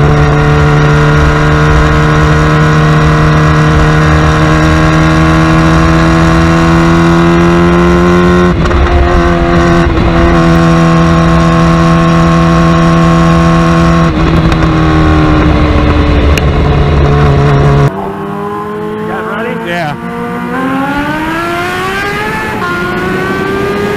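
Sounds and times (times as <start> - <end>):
superbike engine under throttle: 0.0 - 23.9.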